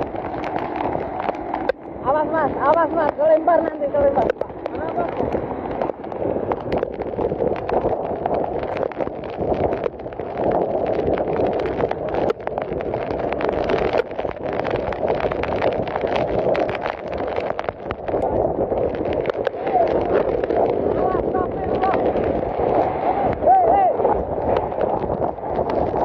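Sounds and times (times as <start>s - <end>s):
heavy rain: 0.0s - 26.0s
strong gusting wind: 0.0s - 26.0s.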